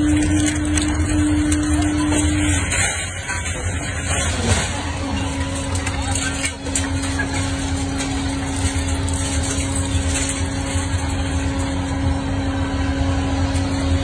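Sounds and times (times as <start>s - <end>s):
hydraulic pump humming: 0.0s - 14.0s.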